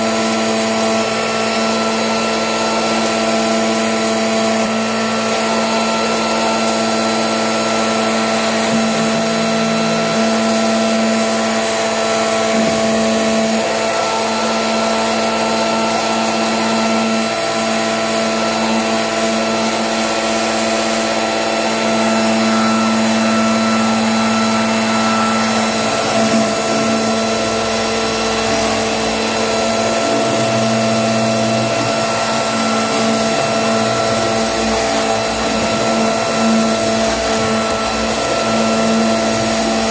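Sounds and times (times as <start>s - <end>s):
electric motor humming: 0.0s - 39.9s.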